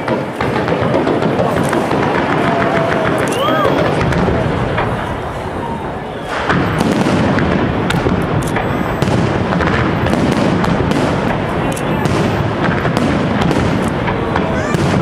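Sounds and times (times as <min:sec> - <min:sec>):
fireworks bursts and cracks: 0:00.0 - 0:15.0
fireworks rumble: 0:00.0 - 0:15.0.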